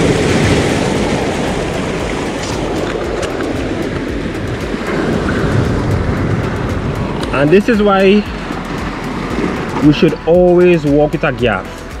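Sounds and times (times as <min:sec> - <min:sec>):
surf breaking over rocks: 0:00.0 - 0:11.7.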